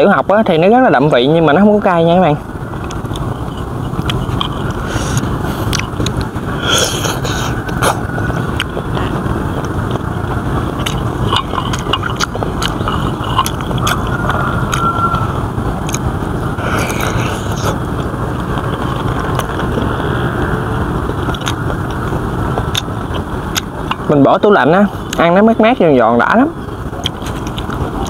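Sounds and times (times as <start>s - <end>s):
low rumble: 0.5s - 24.2s
crunchy chewing: 2.6s - 24.1s, 24.9s - 25.3s, 26.6s - 28.0s.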